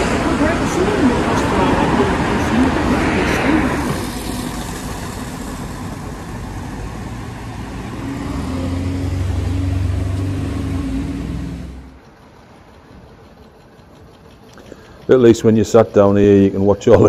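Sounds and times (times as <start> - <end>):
vehicle engine passing close: 0.0 - 13.8
busy street traffic: 0.0 - 17.0.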